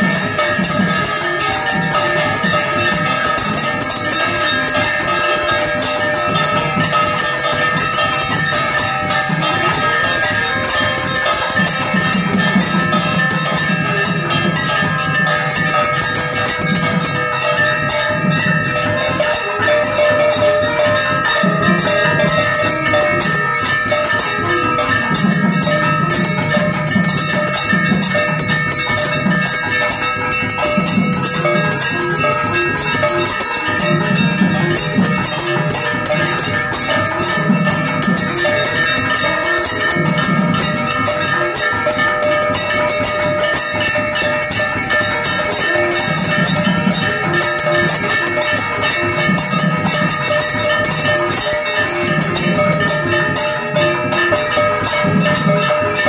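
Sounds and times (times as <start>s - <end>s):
temple bells ringing rapidly: 0.0s - 56.0s.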